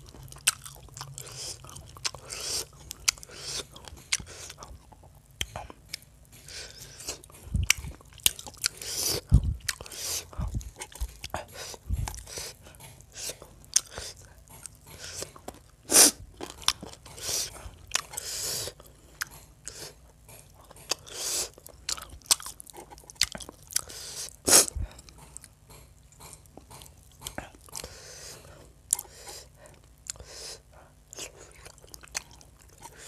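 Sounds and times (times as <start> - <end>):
wet chewing and lip smacking: 0.0 - 33.0.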